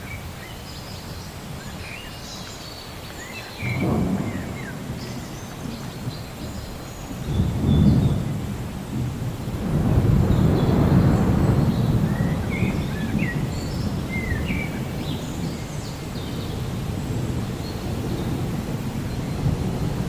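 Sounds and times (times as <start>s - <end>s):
steady rain: 0.0s - 20.0s
distant thunder rumbling: 3.6s - 20.0s.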